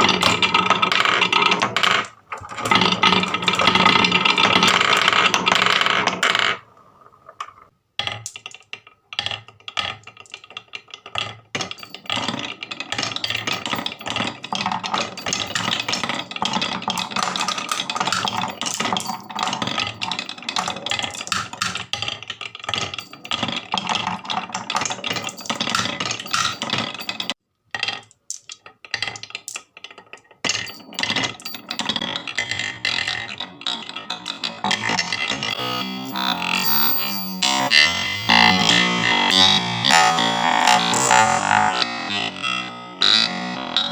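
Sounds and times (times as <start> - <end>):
marbles clattering down marble run: 0.0 - 6.6, 7.4 - 41.8.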